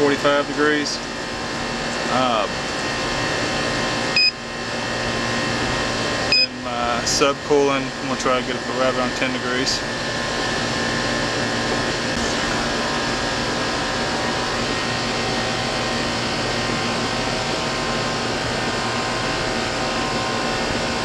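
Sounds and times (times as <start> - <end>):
air conditioner unit whirring: 0.0 - 21.0.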